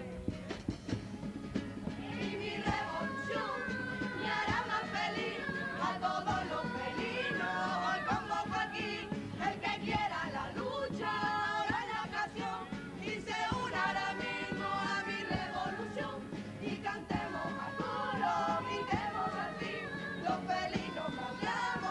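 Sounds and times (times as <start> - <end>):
drum beat: 0.0 - 21.9
voices singing in chorus: 1.8 - 21.9.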